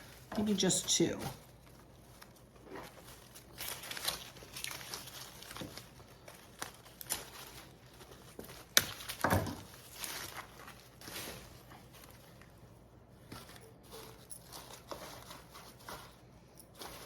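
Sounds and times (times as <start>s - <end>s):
rustling of artificial greenery: 0.0s - 17.0s.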